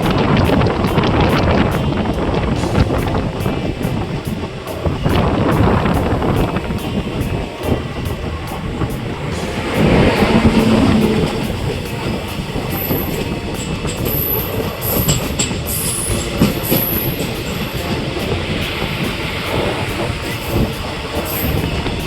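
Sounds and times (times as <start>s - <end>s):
train rumbling on rails: 0.0s - 22.0s
high wheel squeals: 2.1s - 22.0s.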